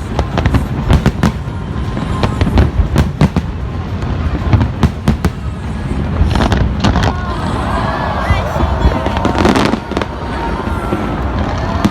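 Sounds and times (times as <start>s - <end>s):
fireworks sharp bangs: 0.0s - 7.4s, 8.1s - 11.9s.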